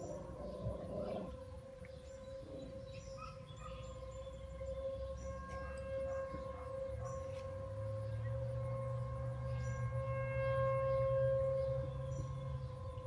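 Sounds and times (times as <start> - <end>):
outdoor warning sirens: 0.0 - 13.0.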